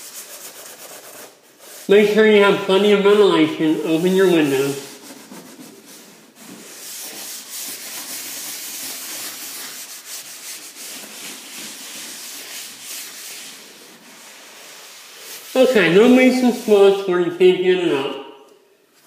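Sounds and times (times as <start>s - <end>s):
scouring pad scrubbing wet floor: 0.0s - 17.1s.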